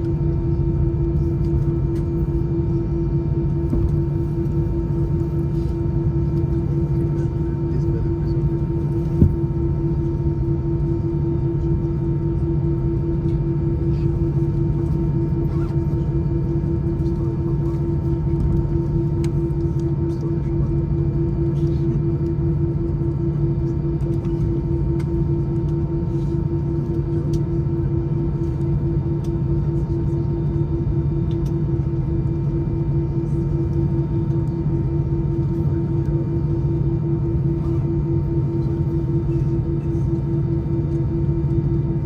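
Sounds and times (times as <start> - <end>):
jet engines droning in cabin: 0.0 - 42.0.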